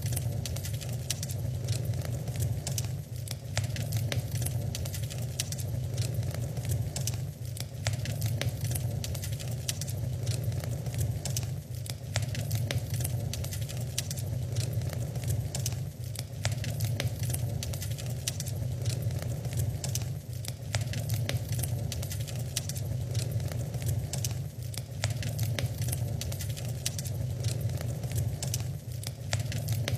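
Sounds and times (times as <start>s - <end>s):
low steady fire rumble: 0.0s - 29.9s
wood fire crackling and popping: 0.0s - 29.9s.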